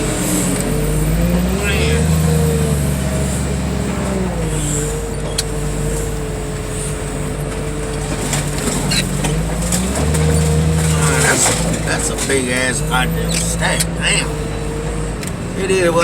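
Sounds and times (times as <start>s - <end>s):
heavy equipment engine running: 0.0s - 16.0s.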